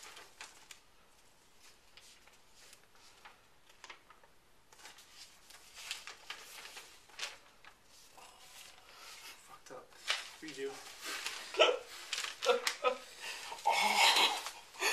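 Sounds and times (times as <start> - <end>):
paper rustling: 0.0 - 14.9.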